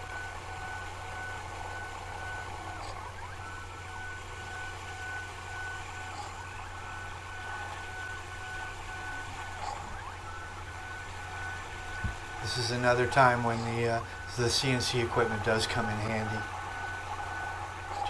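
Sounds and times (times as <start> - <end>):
faint metal cutting noise: 0.0 - 18.0
high whine: 0.0 - 18.0
lathe motor hum: 0.0 - 18.0.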